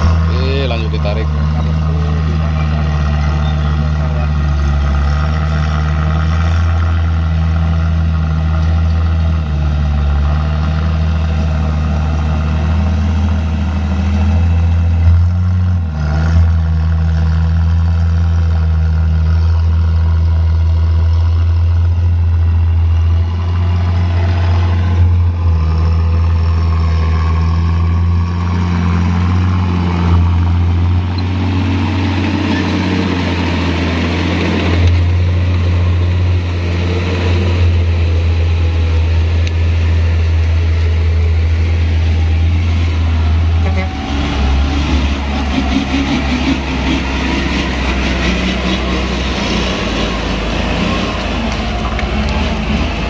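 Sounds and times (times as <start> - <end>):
truck diesel engine running: 0.0 - 53.0.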